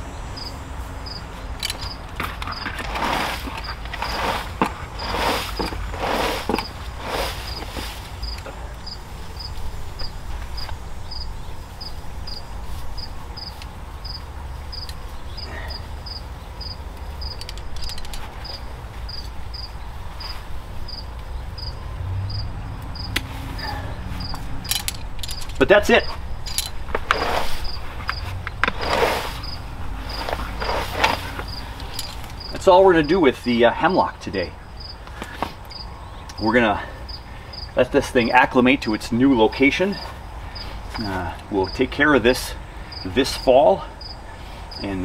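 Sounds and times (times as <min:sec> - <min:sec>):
insect chirping: 0:00.0 - 0:45.0.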